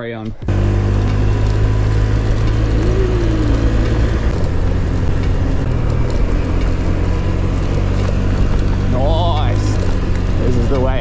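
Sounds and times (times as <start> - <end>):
scooter engine running: 0.3 - 11.0.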